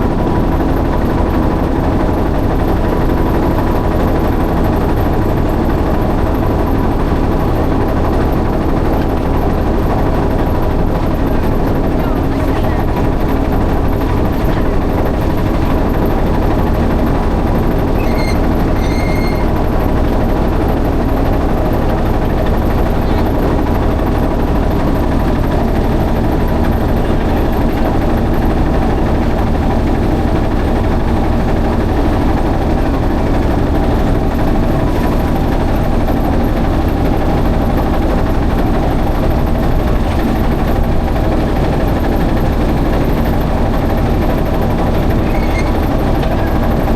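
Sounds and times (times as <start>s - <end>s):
motorboat engine rumbling: 0.0s - 46.9s.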